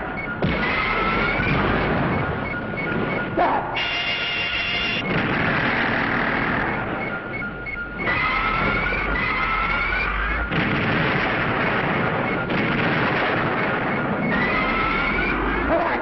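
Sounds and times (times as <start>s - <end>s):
explosion effects: 0.0s - 15.8s.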